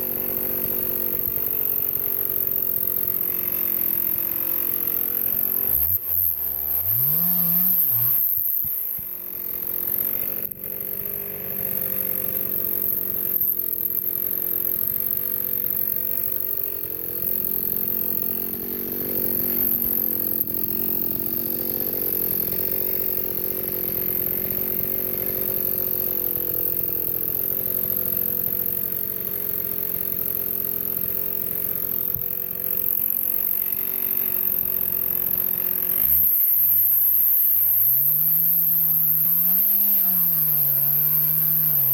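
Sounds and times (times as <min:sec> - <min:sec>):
chainsaw cutting log: 0:00.0 - 0:41.9.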